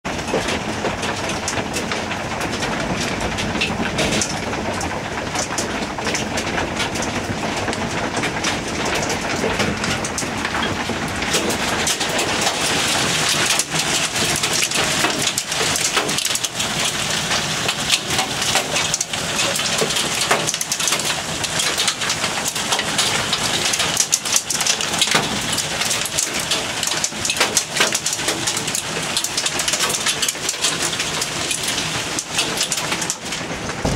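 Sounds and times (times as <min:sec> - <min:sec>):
hail and rain pelting down: 0:00.0 - 0:33.9.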